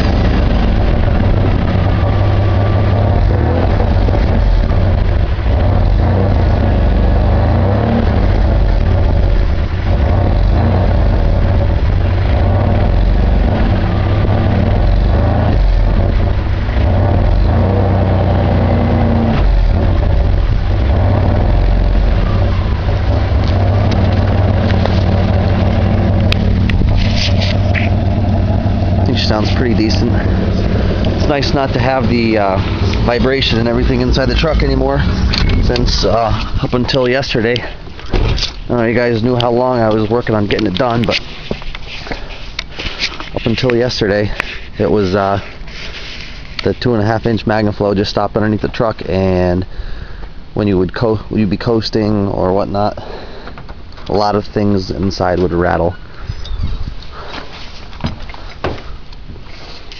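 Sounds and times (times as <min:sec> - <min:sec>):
deep exhaust drone: 0:00.0 - 0:57.3.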